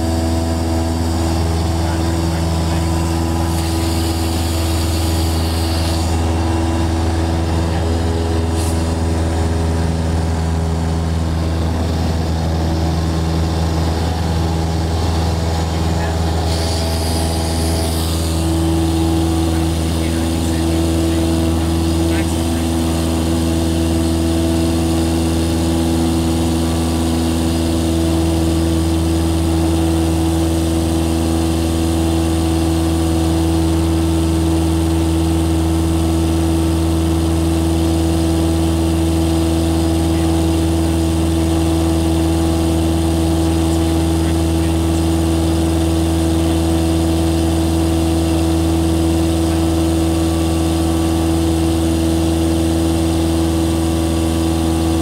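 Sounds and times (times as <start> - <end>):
airplane engine drone in cockpit: 0.0 - 55.0.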